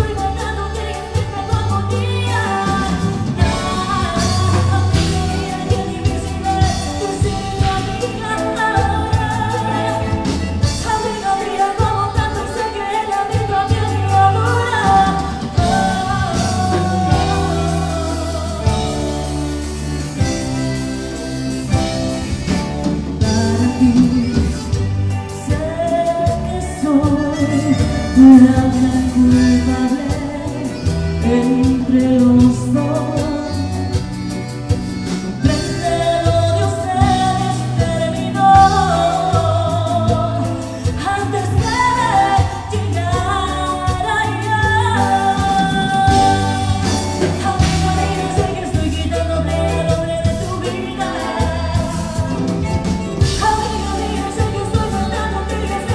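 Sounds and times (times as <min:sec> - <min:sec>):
bass: 0:00.0 - 0:55.9
drum kit: 0:00.0 - 0:55.9
electric guitar: 0:00.0 - 0:55.9
woman singing lead: 0:00.0 - 0:55.9
button accordion: 0:00.1 - 0:55.9.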